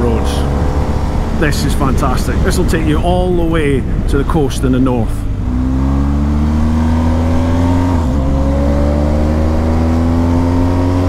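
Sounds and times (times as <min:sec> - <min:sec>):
motorcycle engine accelerating: 0:00.0 - 0:04.1, 0:05.2 - 0:11.0
wind rush: 0:00.0 - 0:11.0.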